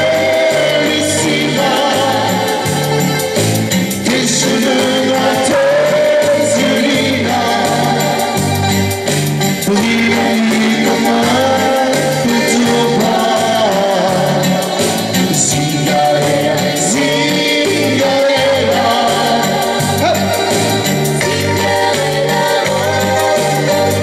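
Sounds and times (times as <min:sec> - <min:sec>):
man singing: 0:00.0 - 0:08.7, 0:09.4 - 0:24.0.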